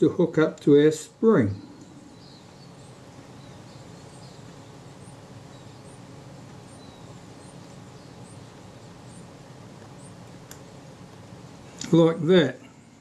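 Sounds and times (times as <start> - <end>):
low room hum: 0.0 - 13.0
faint bird chirping: 1.2 - 11.9.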